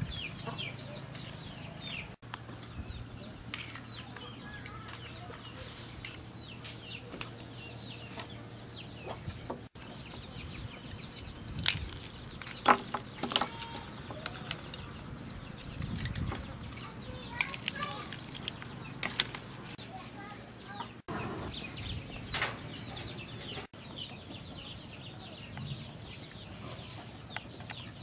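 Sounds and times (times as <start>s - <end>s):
chickens peeping and clucking: 0.0s - 28.0s.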